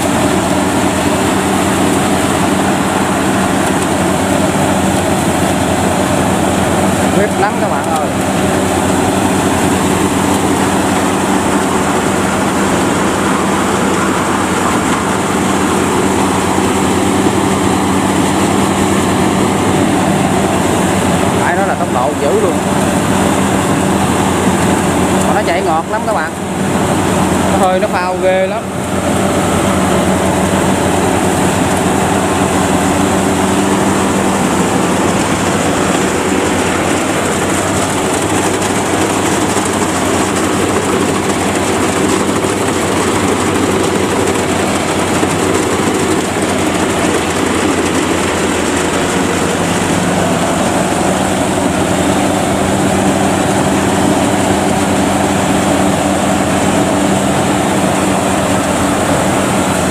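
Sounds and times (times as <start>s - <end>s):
cutting and threshing clatter: 0.0s - 59.9s
harvester engine droning: 0.0s - 59.9s.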